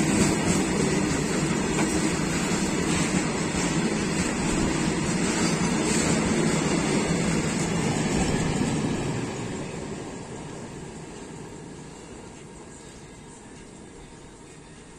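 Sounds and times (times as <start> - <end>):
freight train wheels rumbling on rails: 0.0 - 14.9.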